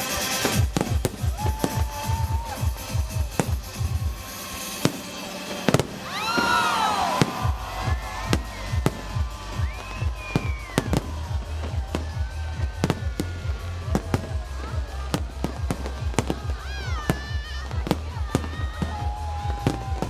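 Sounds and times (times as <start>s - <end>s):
fireworks bangs: 0.0s - 20.0s
fireworks whistles: 0.0s - 20.0s.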